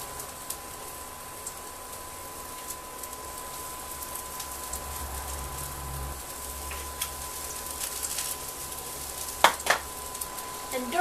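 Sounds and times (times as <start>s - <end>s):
rice sizzling in a wok: 0.0s - 11.0s.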